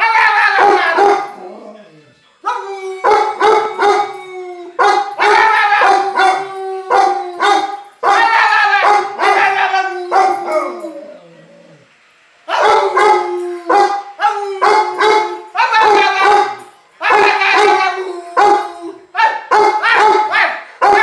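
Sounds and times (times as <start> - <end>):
large dog howling: 0.0 - 11.9, 12.5 - 21.0.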